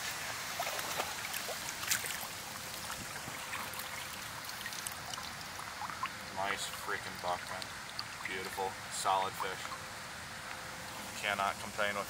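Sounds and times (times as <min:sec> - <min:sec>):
small splashes: 0:00.0 - 0:11.1
river water flowing: 0:00.0 - 0:12.0.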